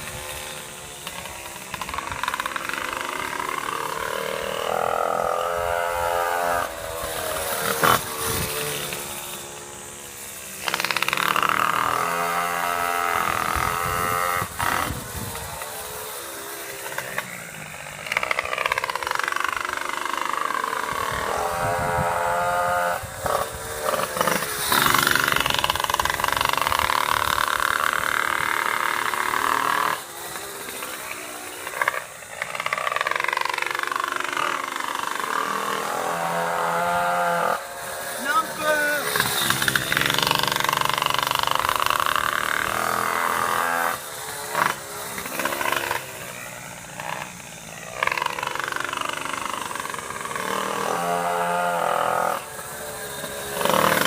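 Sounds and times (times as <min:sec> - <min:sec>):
small two-stroke engine revving: 0:00.0 - 0:54.0.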